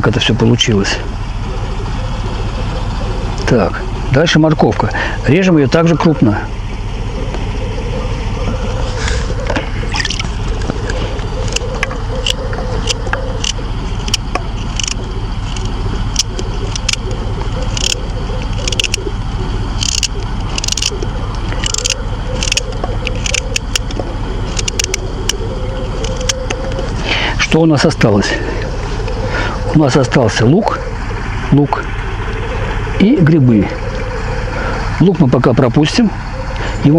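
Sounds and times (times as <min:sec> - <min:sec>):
low rumble with wavering hum: 0:00.0 - 0:36.9.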